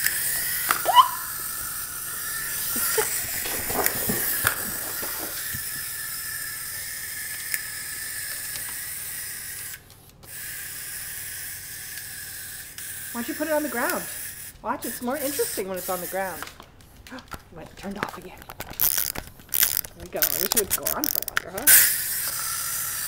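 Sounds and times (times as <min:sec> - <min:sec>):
wind-up toy gears whirring: 0:00.0 - 0:17.0, 0:17.9 - 0:23.0.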